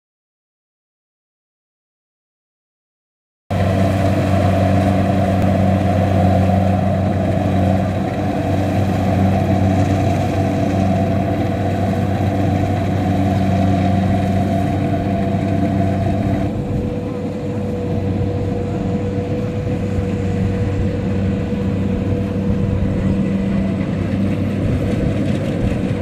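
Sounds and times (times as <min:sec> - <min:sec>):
combine harvester diesel engine: 0:03.5 - 0:26.0.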